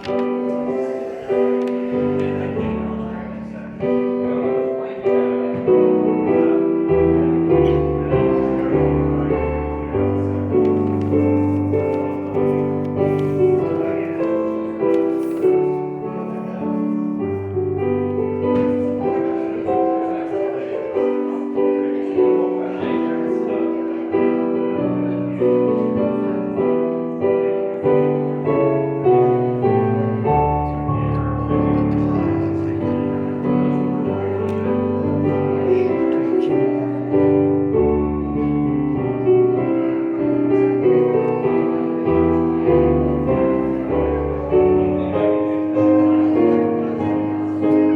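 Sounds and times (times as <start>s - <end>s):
solo piano music: 0.0s - 47.9s.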